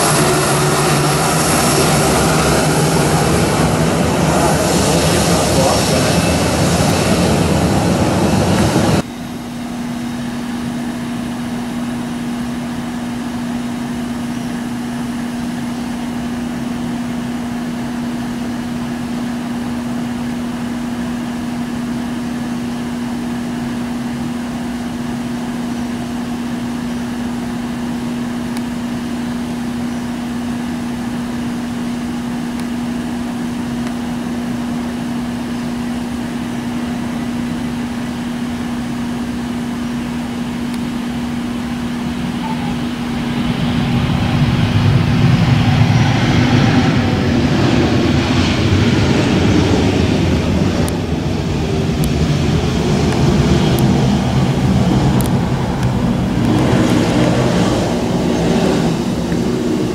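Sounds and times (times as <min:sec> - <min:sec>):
jet engine noise: 0:00.0 - 0:59.9
machine hum with low drone: 0:00.0 - 0:59.9.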